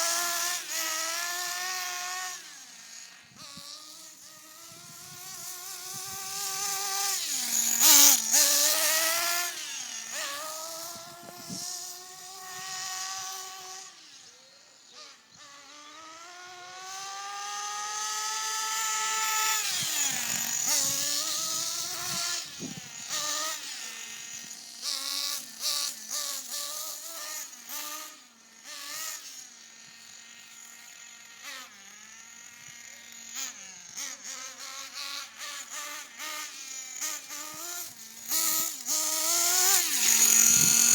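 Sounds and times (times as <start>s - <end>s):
rc car engine buzzing: 0.0s - 40.9s.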